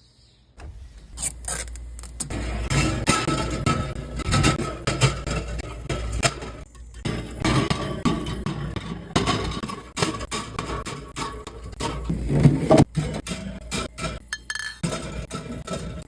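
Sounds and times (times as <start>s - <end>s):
cans and bottles clinking: 2.8s - 16.0s.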